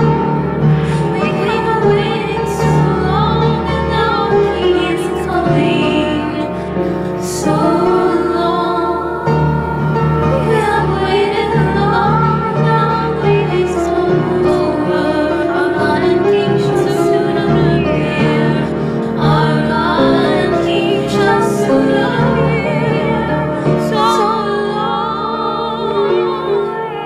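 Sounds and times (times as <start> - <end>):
sustained chords: 0.0 - 27.0
woman singing with vibrato: 0.0 - 27.0.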